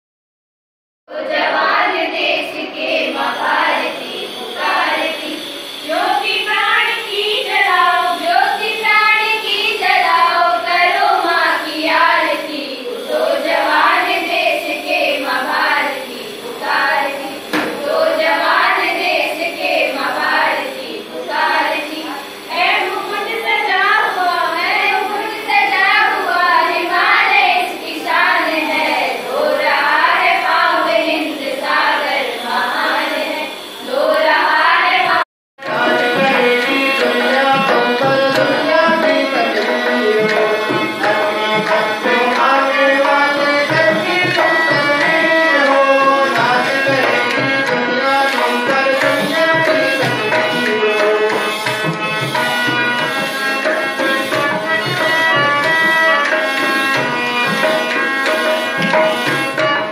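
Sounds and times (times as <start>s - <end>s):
children singing into microphone: 1.1s - 59.9s.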